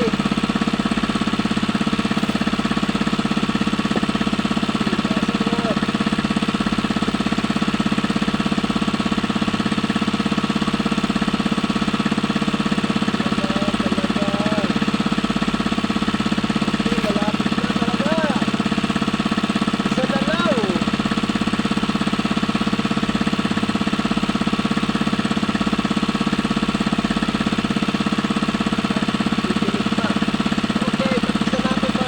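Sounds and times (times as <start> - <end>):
small engine chugging: 0.0 - 32.0.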